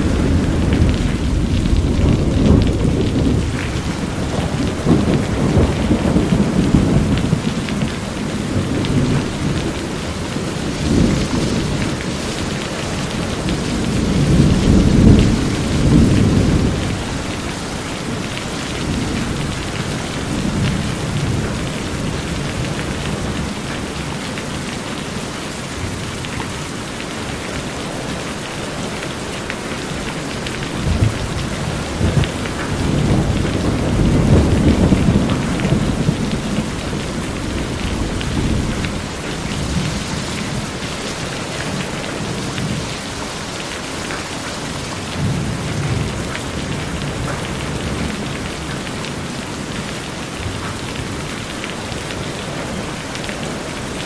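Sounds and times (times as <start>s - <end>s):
thunder rumbling: 0.0s - 26.7s, 27.3s - 44.1s, 44.7s - 54.0s
heavy rain on metal roof: 0.0s - 54.0s.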